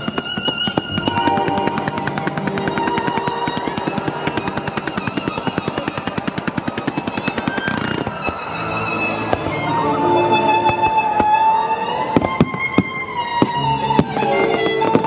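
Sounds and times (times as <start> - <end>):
classical music over loudspeakers: 0.0 - 15.0
firework reports: 0.0 - 15.0.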